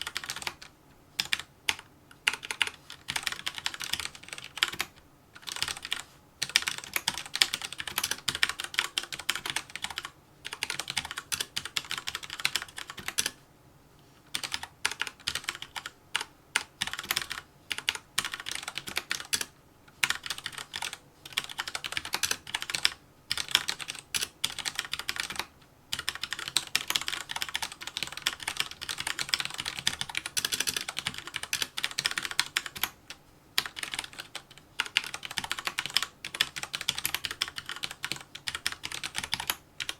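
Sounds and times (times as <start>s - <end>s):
fast typing on mechanical keyboard: 0.0s - 13.4s, 14.3s - 39.9s.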